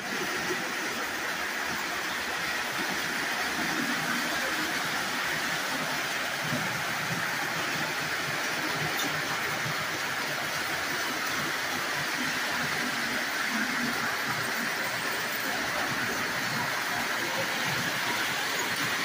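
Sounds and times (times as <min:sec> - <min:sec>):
toy trains whirring on track: 0:00.0 - 0:19.0.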